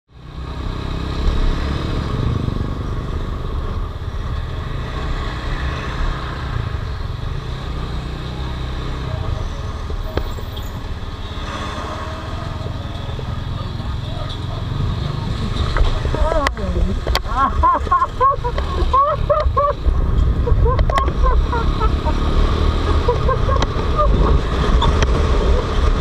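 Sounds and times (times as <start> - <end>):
motorcycle engine drone: 0.1 - 26.0.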